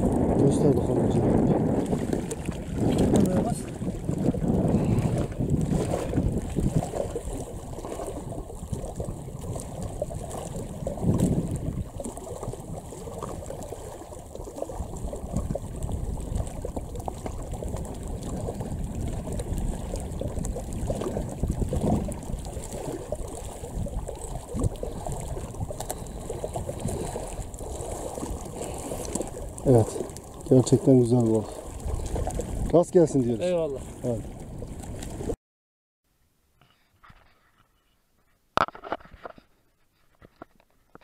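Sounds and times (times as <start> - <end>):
wind buffeting microphone: 0.0 - 35.4.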